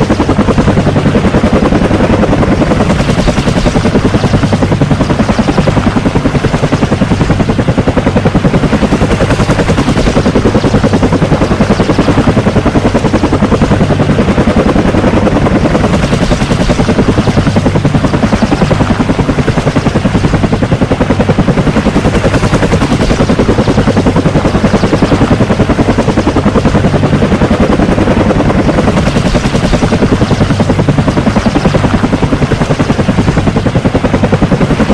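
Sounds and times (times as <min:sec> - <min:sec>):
helicopter rotor chopping: 0:00.0 - 0:34.9.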